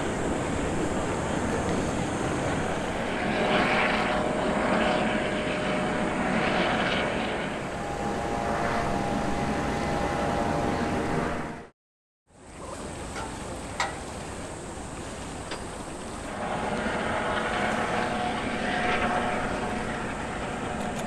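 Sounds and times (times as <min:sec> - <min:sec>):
engine drone with whine: 0:00.0 - 0:11.7, 0:12.4 - 0:21.0.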